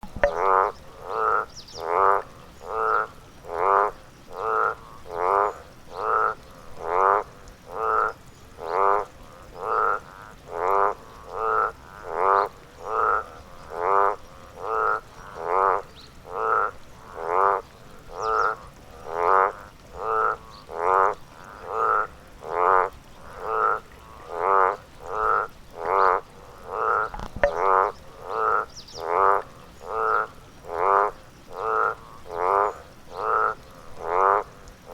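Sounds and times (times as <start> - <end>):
frog croaking: 0.0 - 34.9.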